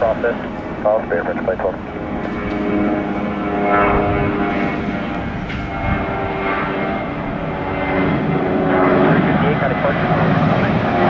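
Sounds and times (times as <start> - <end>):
jet engines running at high power: 0.0 - 11.0.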